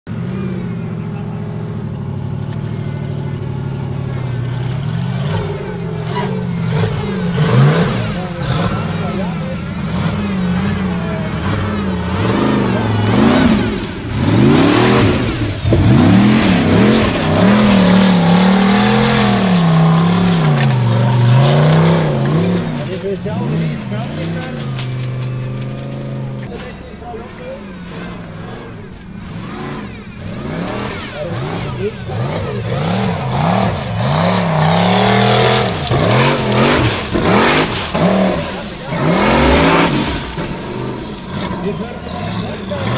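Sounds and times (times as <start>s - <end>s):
buggy engine revving: 0.0s - 42.9s.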